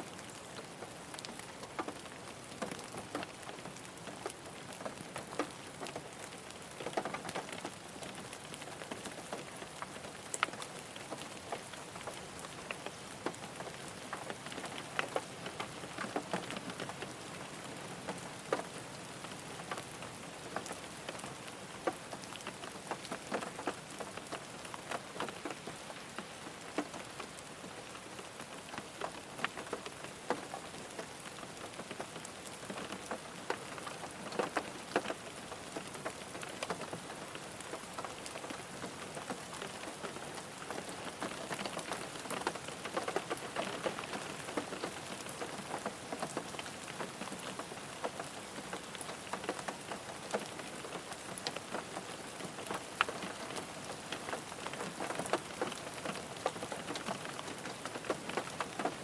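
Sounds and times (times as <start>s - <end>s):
rain pattering on a car: 0.0s - 59.0s.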